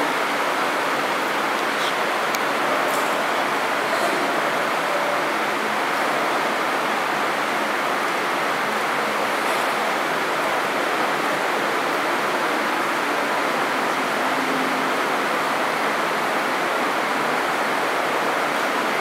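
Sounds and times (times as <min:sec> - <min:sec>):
large crowd din indoors: 0:00.0 - 0:19.0.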